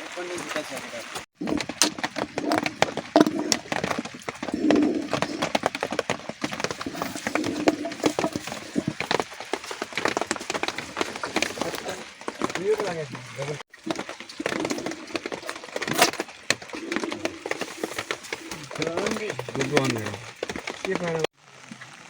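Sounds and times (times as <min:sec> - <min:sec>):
sheep hooves clattering: 0:00.5 - 0:21.3.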